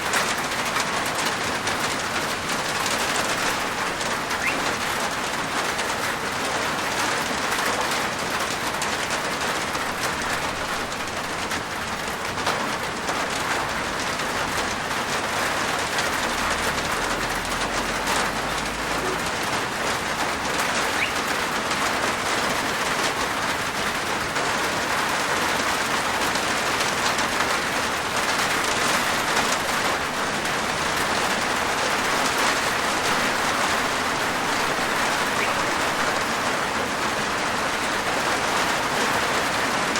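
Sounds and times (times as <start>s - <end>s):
rain falling on a rooftop: 0.0s - 39.9s.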